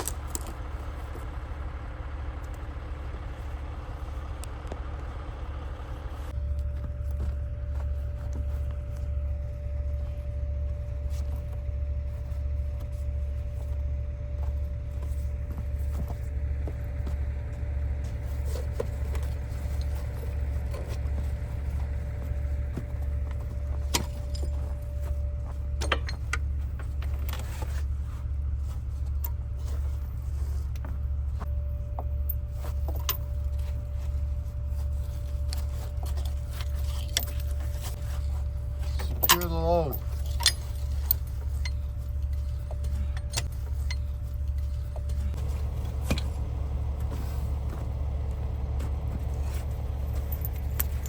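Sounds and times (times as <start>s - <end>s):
diesel truck engine droning: 0.0s - 51.0s.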